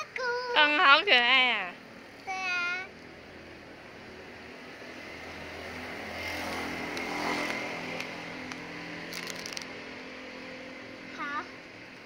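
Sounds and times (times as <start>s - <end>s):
motor vehicle passing: 1.0s - 12.0s.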